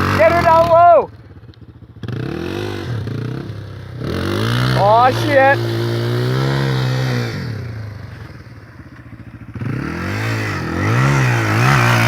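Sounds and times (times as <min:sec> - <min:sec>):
dirt bike engine revving and idling: 0:00.0 - 0:12.0.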